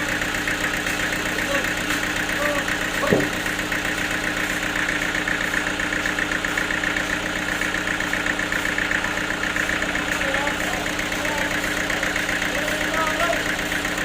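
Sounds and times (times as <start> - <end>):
sawmill machinery humming and buzzing: 0.0 - 14.0.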